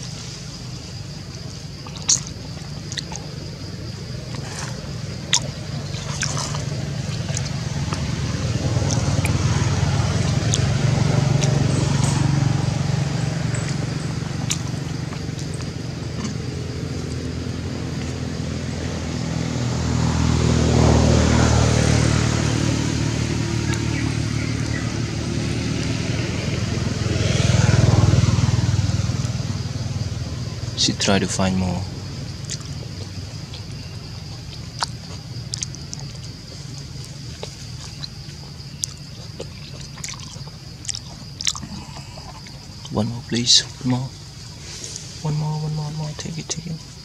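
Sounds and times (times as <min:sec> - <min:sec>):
vehicle engine running: 0:02.4 - 0:47.0.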